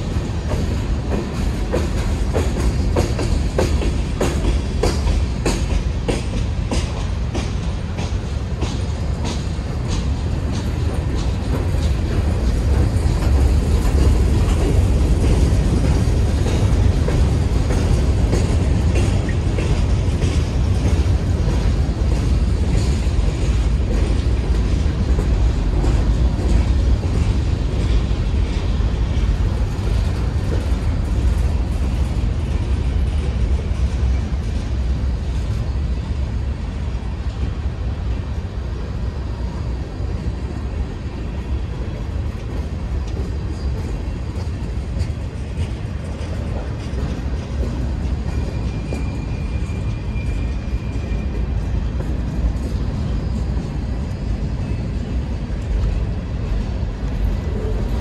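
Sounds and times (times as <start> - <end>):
clicking over rail joints: 0.0 - 35.6, 41.4 - 58.0
train wheels rumbling on rail: 0.0 - 58.0.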